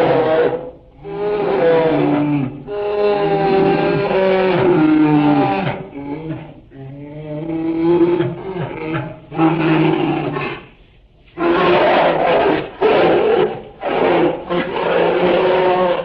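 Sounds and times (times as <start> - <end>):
large animal roaring: 0.0 - 10.8, 11.4 - 16.0.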